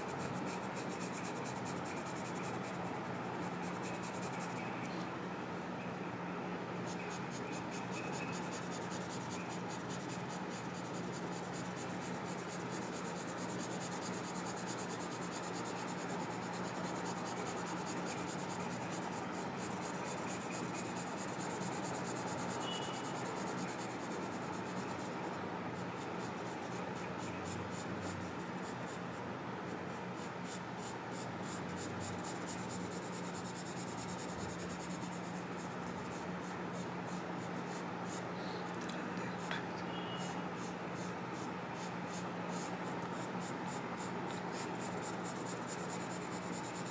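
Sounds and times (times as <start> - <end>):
pencil scratching on paper: 0.0 - 4.6, 6.9 - 29.0, 29.7 - 38.2, 40.6 - 46.9.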